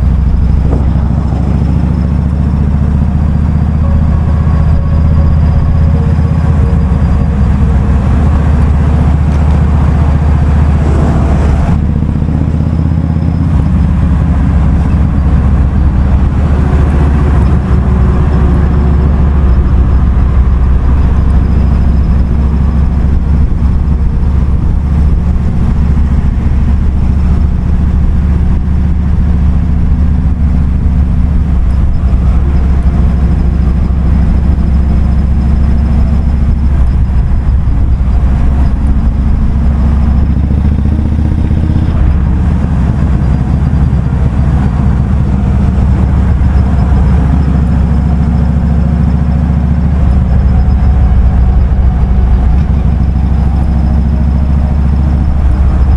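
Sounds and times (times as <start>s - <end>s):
motorcycle engine running at low revs: 0.0s - 55.9s.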